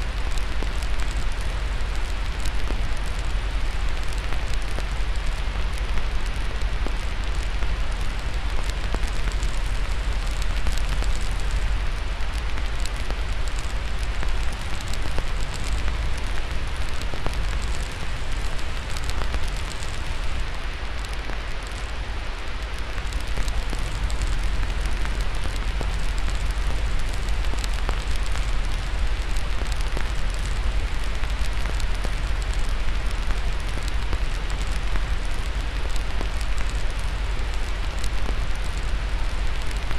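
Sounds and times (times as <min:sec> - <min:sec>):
fire crackling: 0:00.0 - 0:39.9
steady white-noise hiss: 0:00.0 - 0:39.9.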